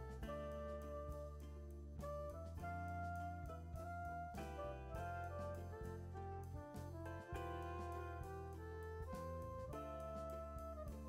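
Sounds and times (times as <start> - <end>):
instrumental music with held notes: 0.0 - 11.0
steady low bass: 0.0 - 11.0.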